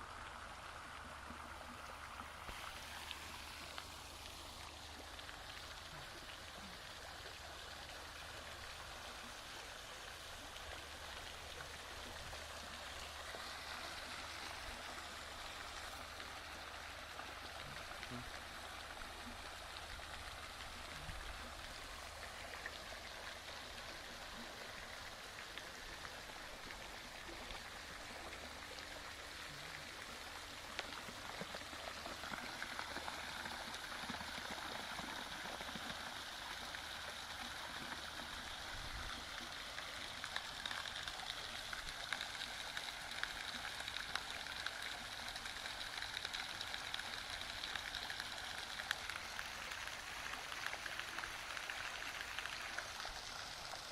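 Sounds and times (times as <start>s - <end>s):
water rushing and pattering: 0.0s - 53.9s.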